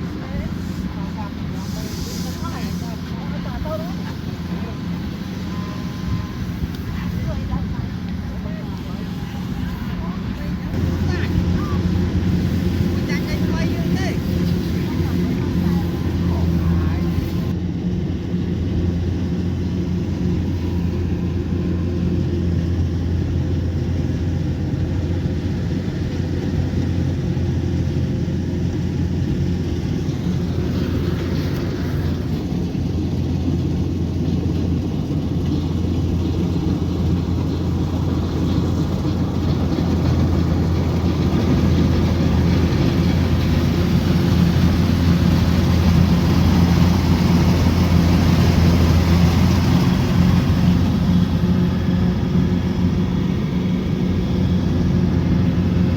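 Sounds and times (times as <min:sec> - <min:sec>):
harvester diesel engine droning: 0:00.0 - 0:55.9.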